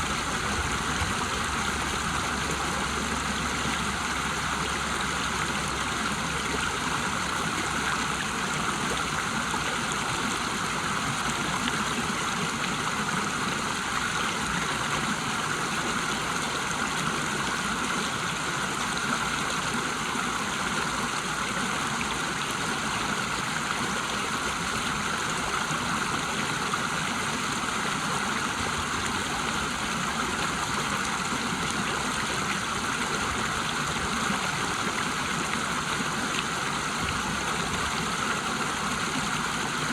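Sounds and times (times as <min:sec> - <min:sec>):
water rushing over waterfall: 0:00.0 - 0:39.9.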